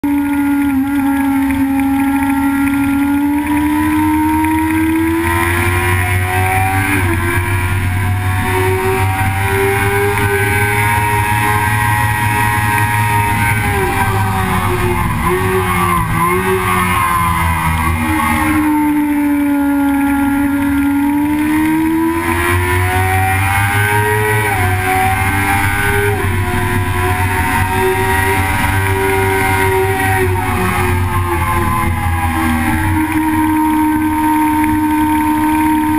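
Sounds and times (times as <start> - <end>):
car engine under load: 0.0 - 35.9
low rumble: 3.0 - 35.9.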